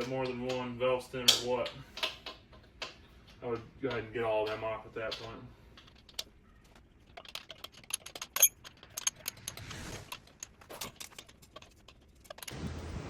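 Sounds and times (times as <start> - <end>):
tools and nuts clinking on metal: 0.0 - 12.5.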